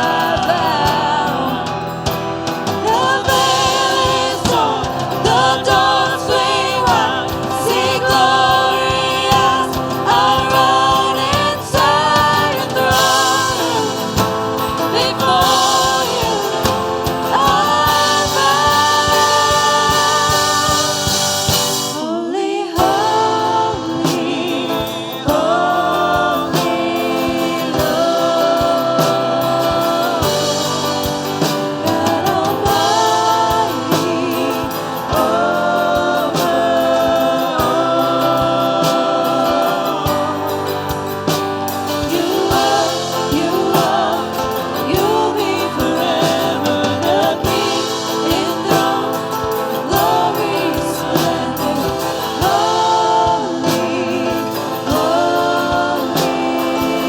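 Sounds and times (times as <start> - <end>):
group singing gospel music: 0.0 - 57.0.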